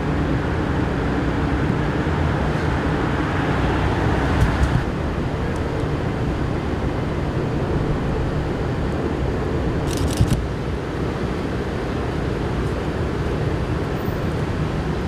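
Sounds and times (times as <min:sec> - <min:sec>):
city street noise: 0:00.0 - 0:15.0
vehicle engine hum: 0:00.0 - 0:15.0.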